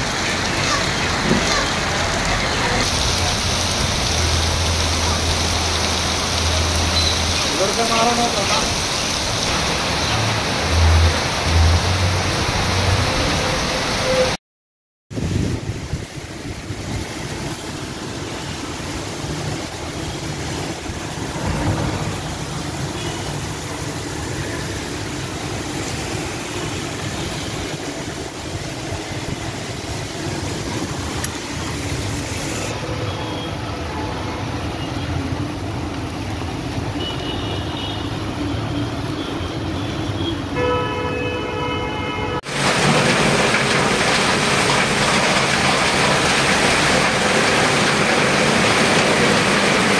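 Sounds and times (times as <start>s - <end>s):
cars passing on wet road: 0.0s - 14.4s, 15.2s - 49.9s
heavy rain: 0.0s - 14.4s, 15.1s - 49.9s.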